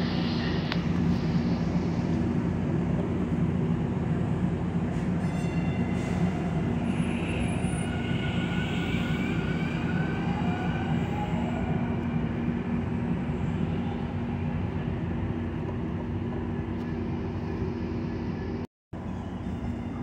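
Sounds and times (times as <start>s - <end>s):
diesel locomotive engine drone: 0.0s - 20.0s.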